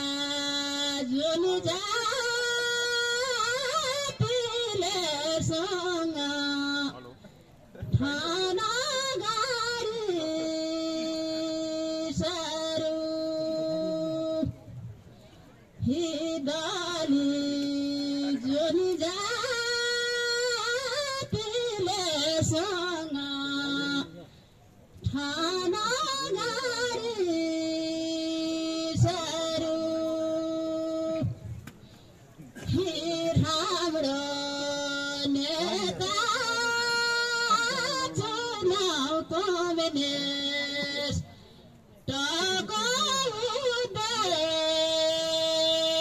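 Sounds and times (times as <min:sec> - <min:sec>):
person singing folk song: 0:00.0 - 0:14.6, 0:15.8 - 0:24.3, 0:25.0 - 0:31.7, 0:32.5 - 0:46.0.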